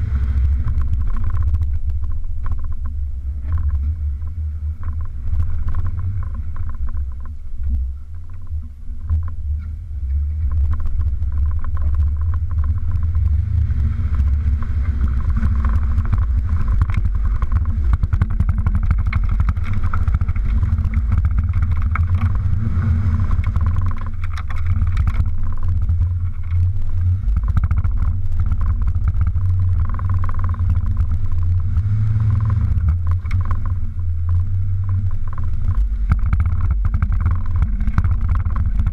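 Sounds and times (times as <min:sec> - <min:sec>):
sharp knocks and rattles: 0:00.0 - 0:38.9
truck engine low rumble: 0:00.0 - 0:38.9.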